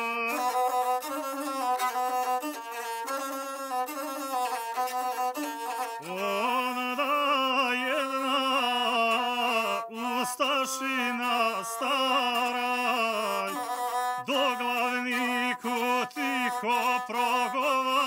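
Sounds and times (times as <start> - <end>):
bowed single-string fiddle: 0.0 - 18.0.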